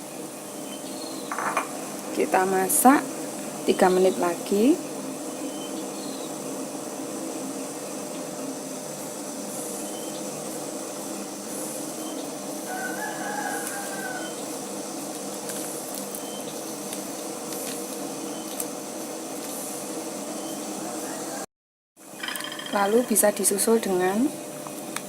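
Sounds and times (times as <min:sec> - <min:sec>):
background hiss and hum: 0:00.0 - 0:25.0.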